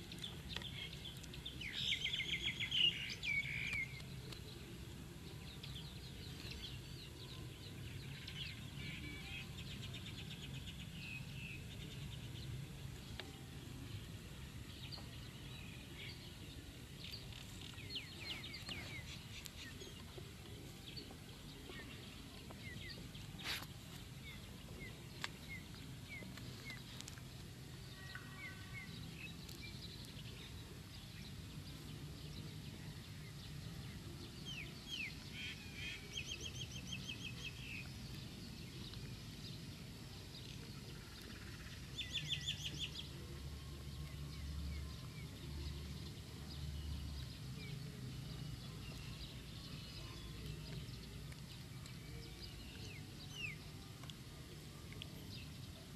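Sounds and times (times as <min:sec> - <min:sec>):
birds chirping: 0:00.0 - 0:55.9
low steady hum: 0:00.0 - 0:55.9.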